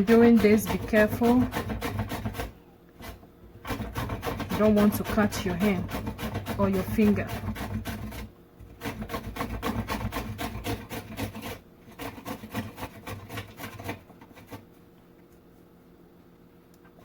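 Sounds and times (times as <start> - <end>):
plantain rasping on a metal grater: 0.0 - 14.8.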